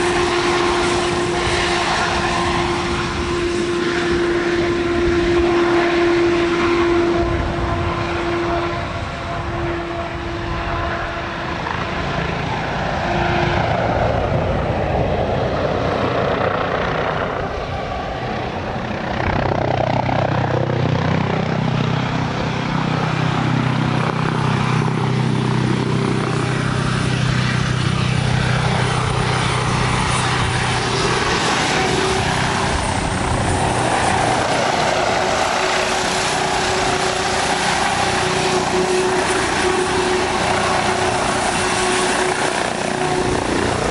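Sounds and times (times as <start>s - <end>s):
helicopter flying low: 0.0s - 43.9s.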